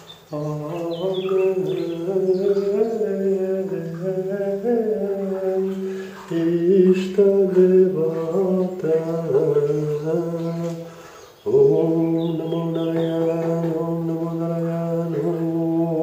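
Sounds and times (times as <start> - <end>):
man chanting in held tones: 0.3 - 16.0.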